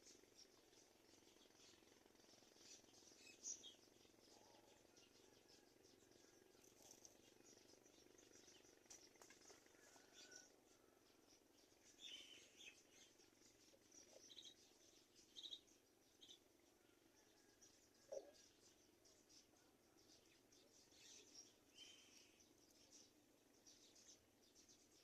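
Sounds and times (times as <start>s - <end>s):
faint high-pitched bird chirping: 0.0s - 25.0s.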